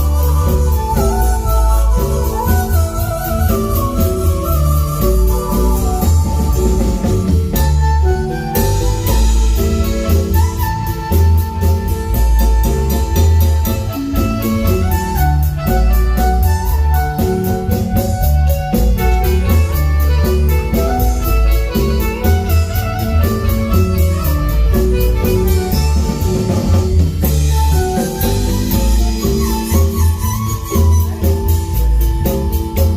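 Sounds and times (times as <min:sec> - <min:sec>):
heavy bass line: 0:00.0 - 0:32.9
marimba band playing: 0:00.0 - 0:32.9
steady drum beat: 0:00.0 - 0:32.9.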